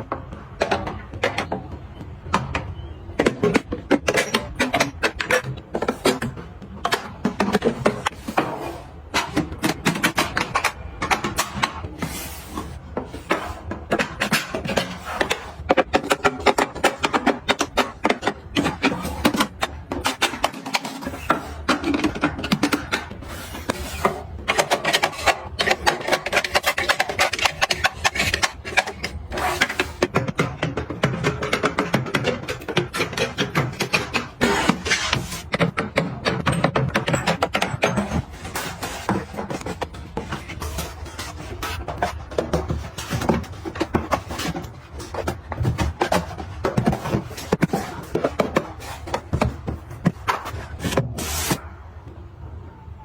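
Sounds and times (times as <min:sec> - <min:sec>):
rubbing and rustling: 0:02.8 - 0:51.6.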